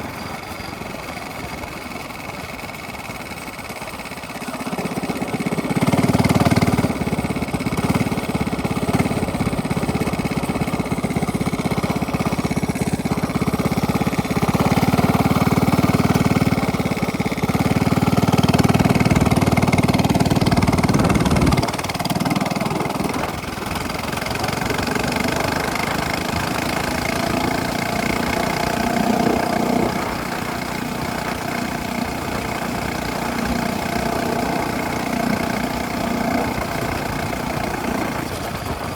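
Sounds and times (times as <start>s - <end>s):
minibike engine revving: 0.0s - 38.9s.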